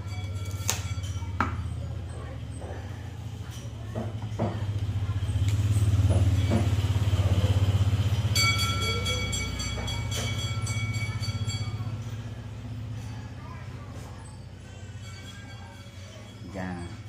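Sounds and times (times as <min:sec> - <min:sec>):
low engine-like rumble: 0:00.0 - 0:17.0.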